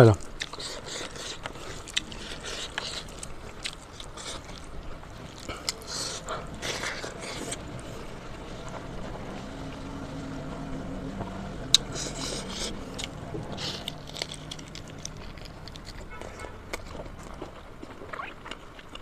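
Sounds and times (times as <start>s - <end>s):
person chewing food: 0.2s - 9.8s, 11.2s - 19.0s
low background drone: 0.5s - 18.0s.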